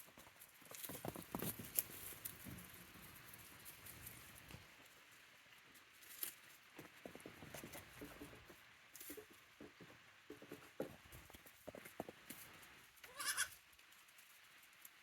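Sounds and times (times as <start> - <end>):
goat hooves tapping and scuffling: 0.0 - 15.0.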